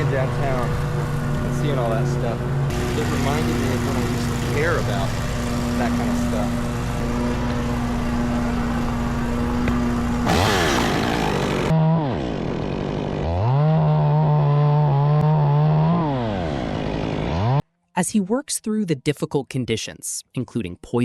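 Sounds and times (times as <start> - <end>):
chainsaw engine revving: 0.0 - 17.6.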